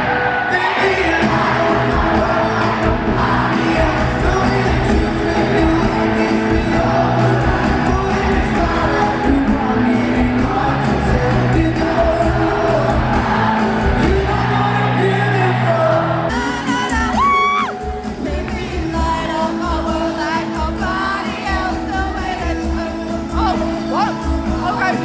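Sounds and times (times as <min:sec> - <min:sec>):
live pop-rock band with singer: 0:00.0 - 0:25.0.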